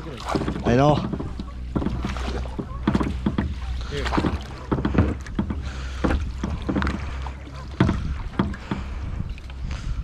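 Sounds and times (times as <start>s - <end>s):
knocks and handling on a kayak: 0.0s - 10.0s
wind rumble on microphone: 0.0s - 10.0s.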